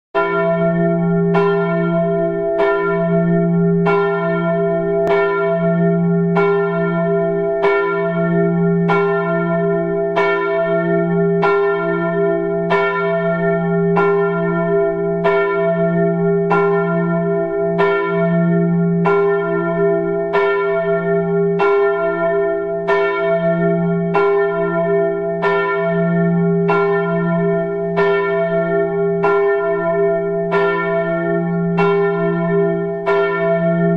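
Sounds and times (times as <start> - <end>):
large bell tolling: 0.2 - 33.9.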